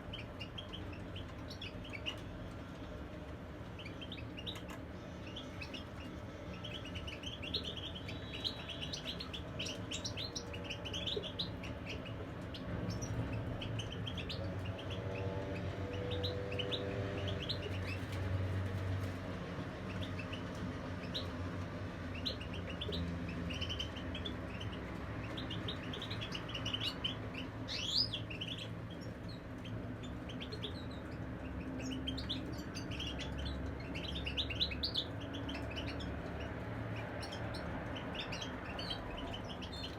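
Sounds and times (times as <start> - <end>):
finches chirping and twittering: 0.0 - 2.6, 3.7 - 39.9.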